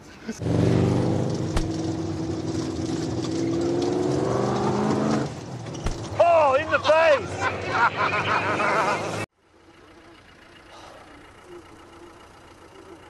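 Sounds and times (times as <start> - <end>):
buggy engine running: 0.2 - 13.0.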